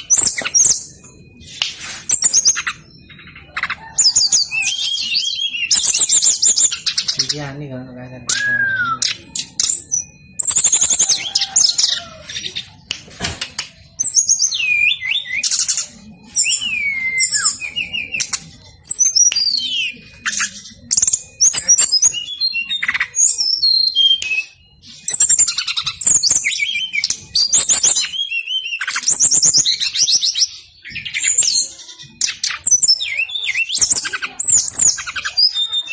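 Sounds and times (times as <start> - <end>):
bird singing chirps and trills: 0.0 - 13.0, 13.6 - 35.9.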